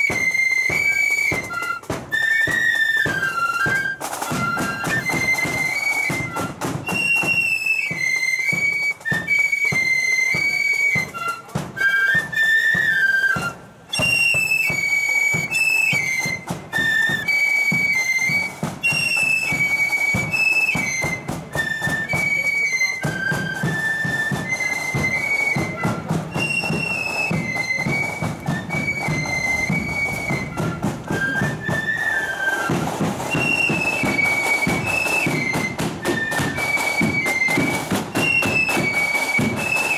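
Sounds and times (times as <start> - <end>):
flutes playing a high melody: 0.0 - 39.9
steady drum beats: 0.0 - 39.9.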